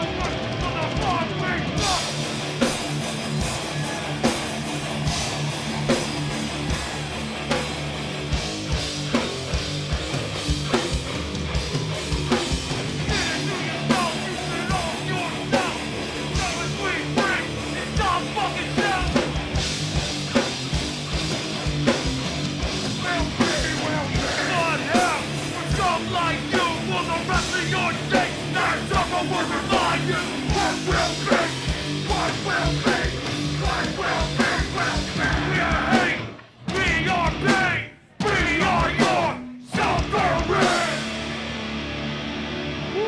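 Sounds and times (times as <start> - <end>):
punk band playing live: 0.0 - 43.0.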